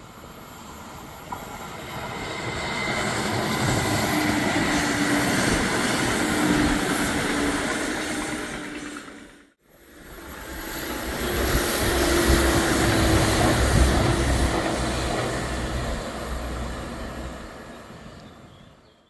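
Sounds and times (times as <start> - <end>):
train rumbling over viaduct: 0.0 - 19.0.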